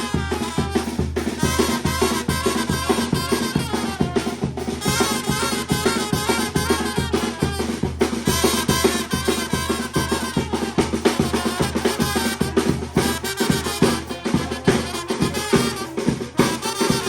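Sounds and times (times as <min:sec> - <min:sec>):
band music: 0:00.0 - 0:17.0
drum kit beat: 0:00.0 - 0:17.0.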